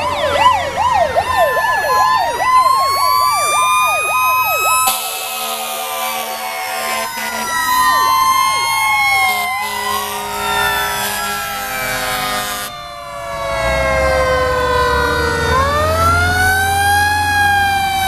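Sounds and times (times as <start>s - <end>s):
siren wails: 0.0s - 18.0s
siren yelp: 0.0s - 18.0s
steady low siren tone: 0.0s - 18.0s.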